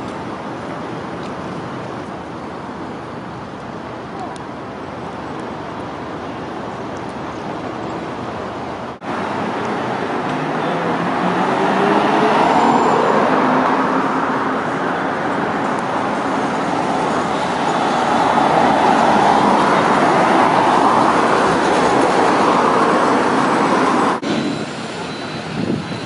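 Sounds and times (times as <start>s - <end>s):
city street traffic: 0.0s - 26.0s
tram passing: 4.9s - 26.0s.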